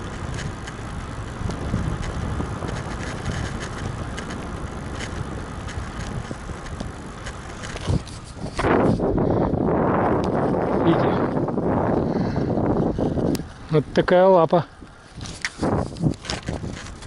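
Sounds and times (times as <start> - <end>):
wind on microphone: 0.0 - 14.1, 14.7 - 17.0
bicycle tyre noise: 0.0 - 17.0.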